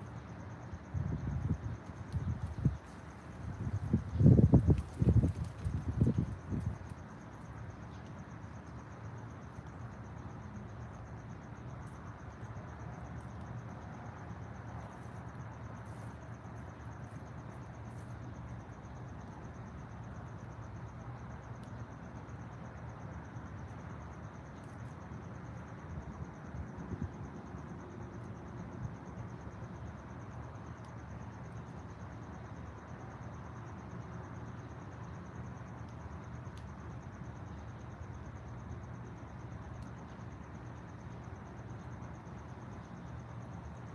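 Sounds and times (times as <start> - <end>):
high insect trill: 0.0 - 43.9
outdoor ambience: 0.0 - 43.9.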